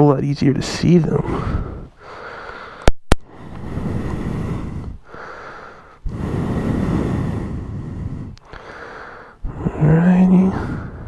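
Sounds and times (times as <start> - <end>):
person breathing heavily: 1.1 - 11.0.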